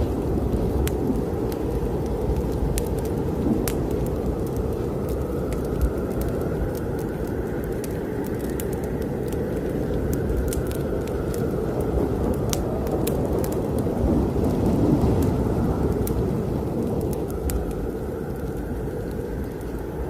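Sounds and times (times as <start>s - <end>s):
fire crackling and popping: 0.0s - 20.0s
low rumbling wind: 0.0s - 20.0s.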